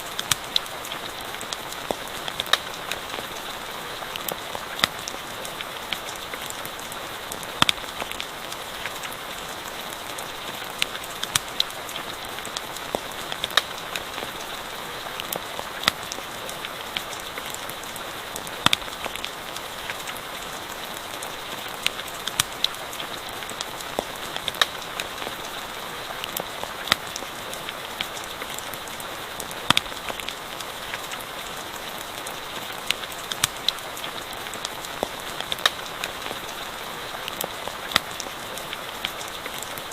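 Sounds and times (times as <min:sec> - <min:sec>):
campfire popping and crackling: 0:00.0 - 0:25.6, 0:26.2 - 0:39.9
rain falling: 0:00.0 - 0:39.9.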